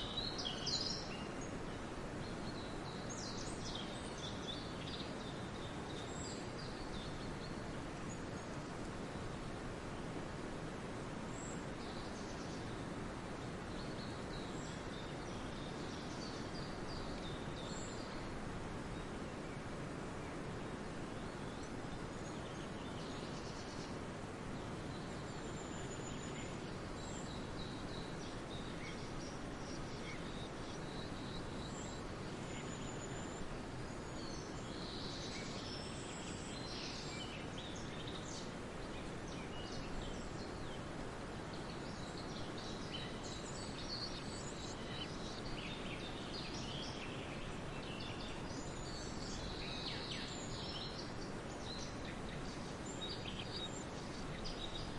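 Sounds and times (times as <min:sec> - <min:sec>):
low rushing background noise: 0:00.0 - 0:54.9.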